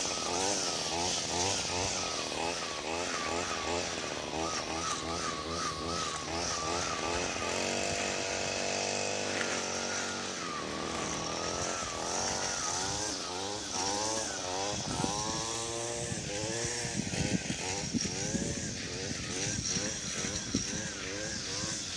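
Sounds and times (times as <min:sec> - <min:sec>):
string trimmer engine revving: 0:00.0 - 0:21.9.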